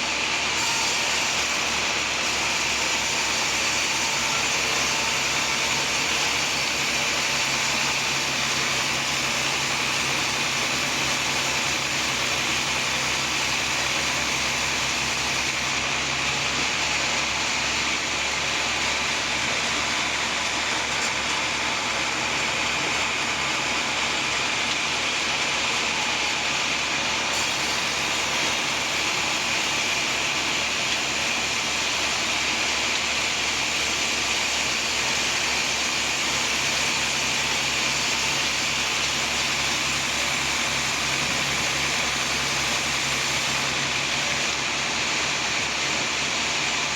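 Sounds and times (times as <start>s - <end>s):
saw cutting through log: 0.0s - 46.9s.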